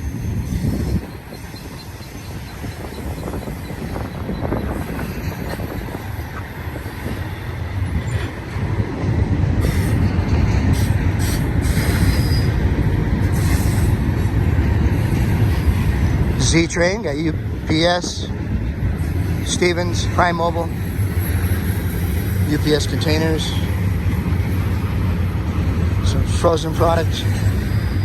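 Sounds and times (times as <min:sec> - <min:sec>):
freight train rumbling on rails: 0:00.0 - 0:28.0.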